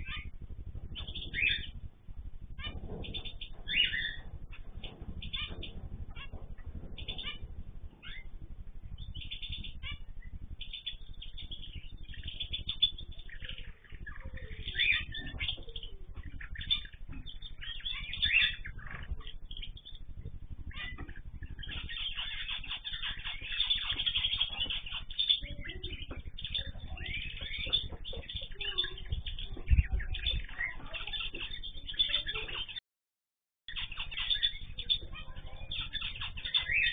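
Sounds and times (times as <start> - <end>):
cage birds chirping and calling: 0.0 - 32.8, 33.7 - 36.9
low background hum: 0.0 - 32.8, 33.7 - 36.9.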